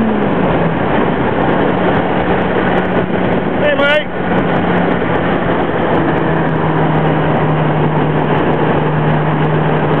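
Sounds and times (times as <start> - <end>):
car engine droning: 0.0 - 10.0
wind and road noise: 0.0 - 10.0.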